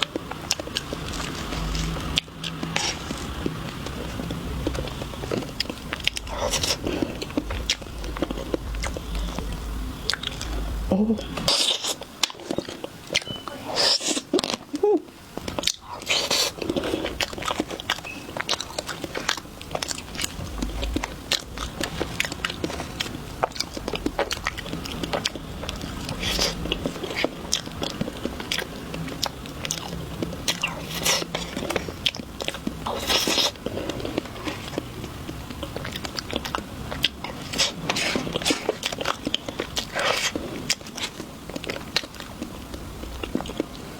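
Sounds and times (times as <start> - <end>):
person chewing with crunches: 0.0 - 43.9.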